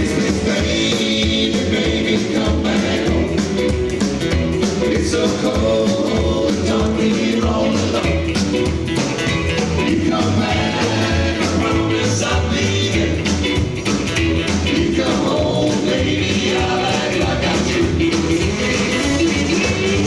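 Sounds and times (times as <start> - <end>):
bass notes: 0.0 - 20.0
drums beat: 0.0 - 20.0
rockabilly band playing: 0.0 - 20.0.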